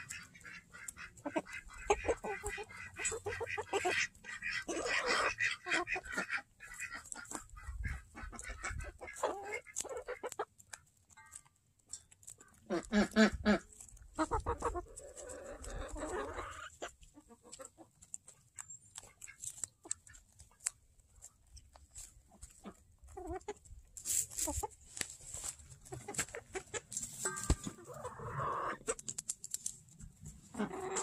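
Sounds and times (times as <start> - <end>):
chickens clucking: 0.0 - 31.0
chickens pecking at feed: 0.0 - 31.0.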